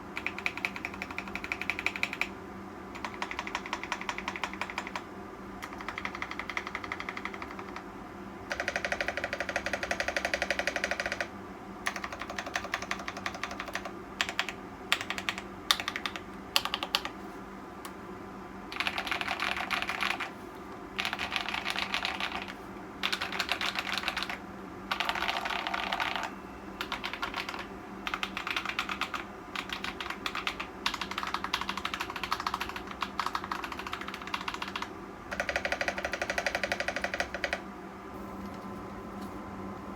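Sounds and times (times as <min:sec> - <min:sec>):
steady low hum: 0:00.0 - 0:39.9
mechanical keyboard typing: 0:00.2 - 0:02.3, 0:02.9 - 0:07.9, 0:08.5 - 0:17.2, 0:18.7 - 0:20.3, 0:21.0 - 0:37.6.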